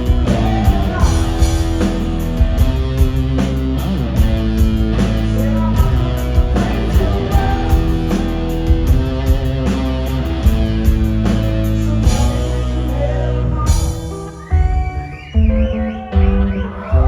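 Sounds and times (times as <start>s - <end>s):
electric guitar playing chords: 0.0s - 17.0s
steady drum beat: 0.0s - 17.0s.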